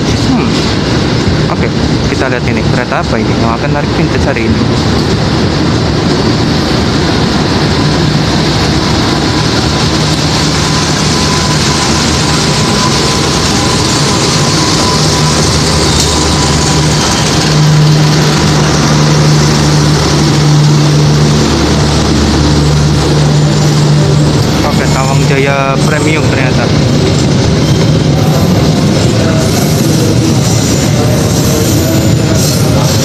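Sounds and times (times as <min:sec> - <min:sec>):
carriages rolling on rails: 0:00.0 - 0:33.0
locomotive engine running: 0:00.0 - 0:33.0.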